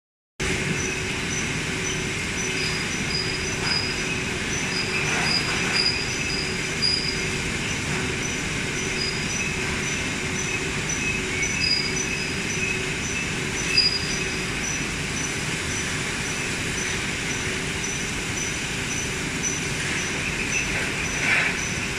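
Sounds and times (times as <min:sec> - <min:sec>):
machinery drone: 0:00.4 - 0:21.9
machine clatter: 0:00.7 - 0:21.9.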